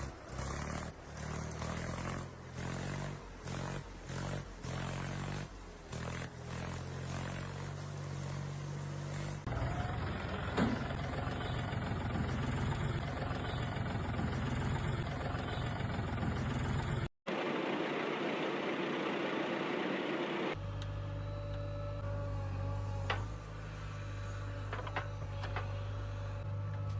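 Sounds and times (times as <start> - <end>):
engine running: 0.0 - 26.9.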